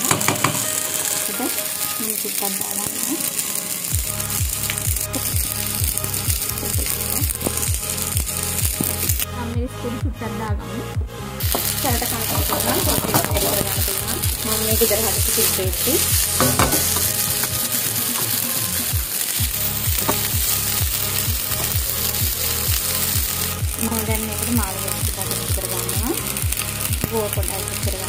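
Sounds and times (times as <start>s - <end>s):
rice sizzling in a pan: 0.0s - 9.3s, 11.4s - 28.0s
spatula stirring in a pan: 0.0s - 9.3s, 11.4s - 28.0s
background music with steady beat: 0.0s - 28.0s.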